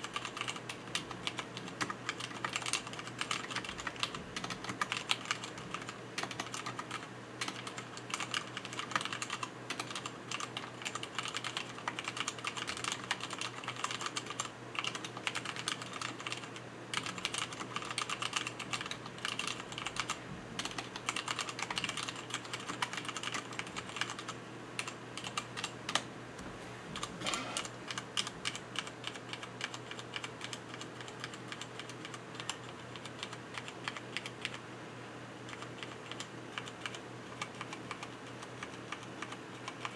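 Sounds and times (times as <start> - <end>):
fast typing on mechanical keyboard: 0.0 - 26.0, 27.0 - 34.6, 35.5 - 39.9.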